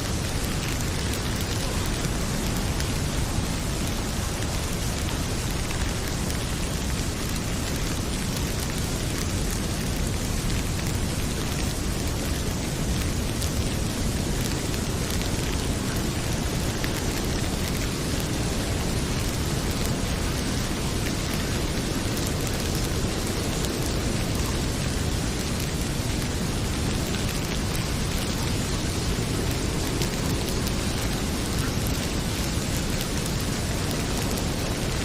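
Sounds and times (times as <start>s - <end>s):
heavy rain pouring: 0.0s - 35.0s
wood fire crackling: 0.0s - 35.0s.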